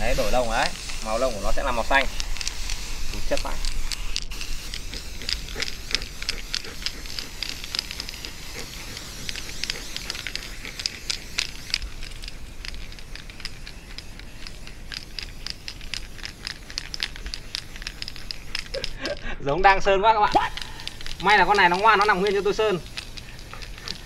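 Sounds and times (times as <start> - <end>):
aerosol spray hissing: 0.0 - 19.2, 20.3 - 24.0.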